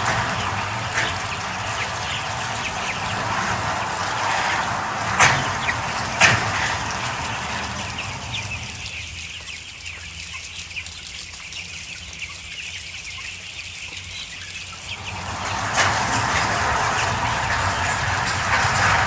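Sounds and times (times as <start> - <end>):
chickens clucking and peeping: 0.0 - 19.0.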